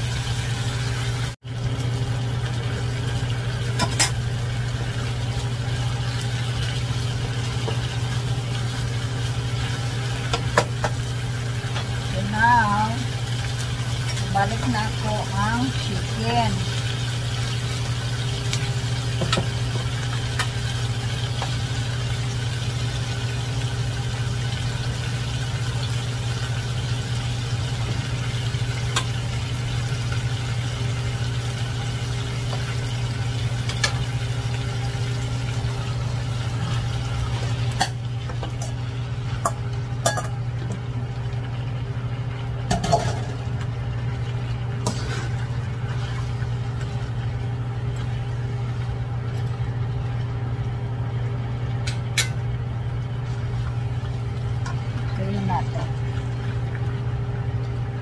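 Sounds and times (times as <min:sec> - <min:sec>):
chicken sizzling in a pan: 0:00.0 - 0:58.0.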